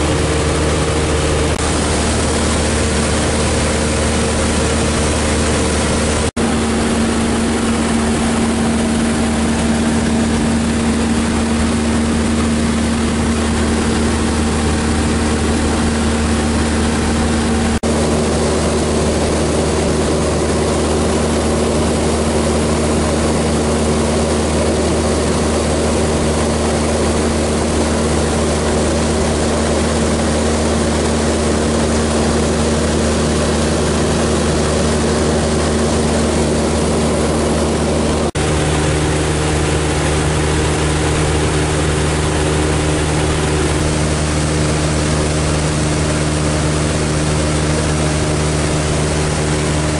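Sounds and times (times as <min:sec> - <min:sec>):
plane engine from inside cabin: 0:00.0 - 0:49.9.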